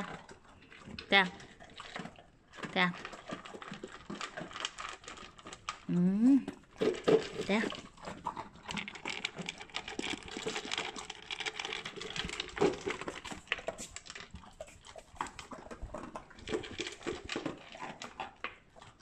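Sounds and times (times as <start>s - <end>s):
dogs crunching kibble: 0.0s - 19.0s.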